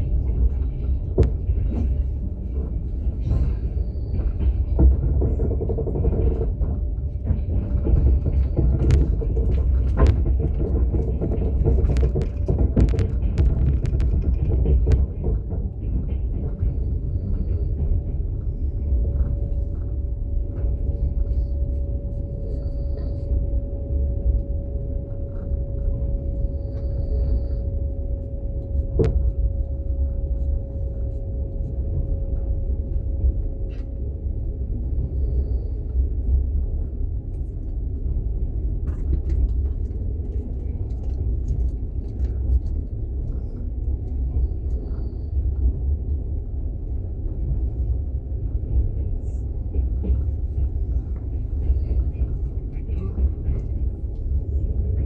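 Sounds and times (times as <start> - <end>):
train carriage rumbling on rails: 0.0 - 55.0.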